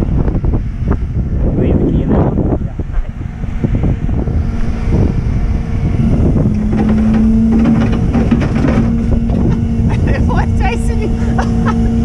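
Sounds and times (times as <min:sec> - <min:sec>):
engine running: 0:00.0 - 0:12.0
steady whine: 0:00.0 - 0:12.0
wind buffeting microphone: 0:00.0 - 0:12.0.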